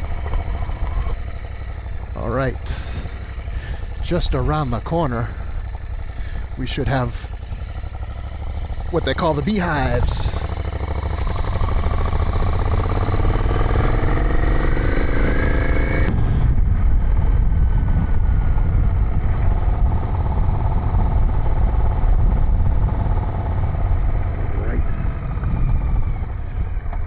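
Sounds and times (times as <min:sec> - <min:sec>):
low rumble: 0:00.0 - 0:27.0
motorcycle engine accelerating: 0:00.0 - 0:27.0.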